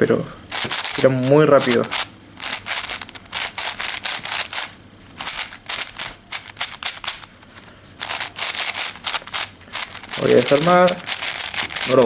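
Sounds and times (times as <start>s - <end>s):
speed cube turning clicks: 0.5s - 7.3s, 8.0s - 12.0s.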